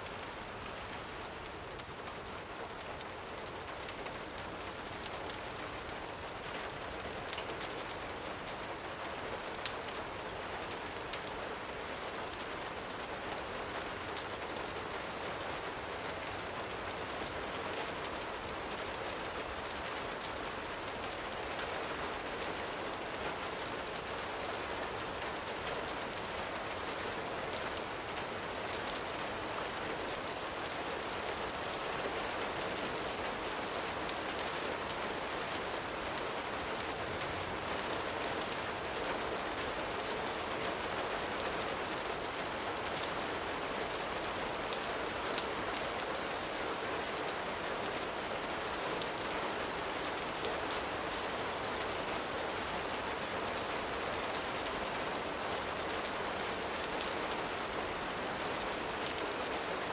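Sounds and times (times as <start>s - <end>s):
gentle rain falling: 0.0s - 59.9s
rain drops ticking: 0.0s - 59.9s.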